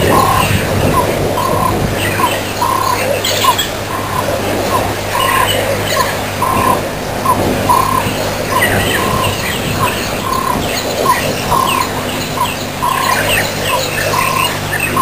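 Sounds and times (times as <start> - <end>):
high bird chirps: 0.0 - 15.0
steady low hum: 0.0 - 15.0.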